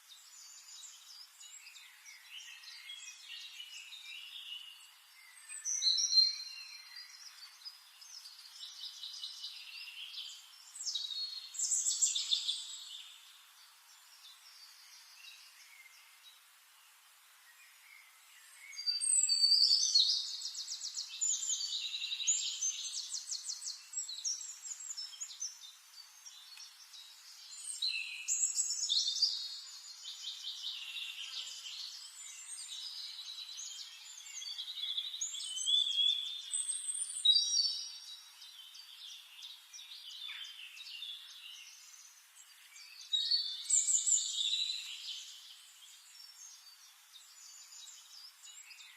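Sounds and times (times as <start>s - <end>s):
songbirds singing: 0.0s - 48.9s.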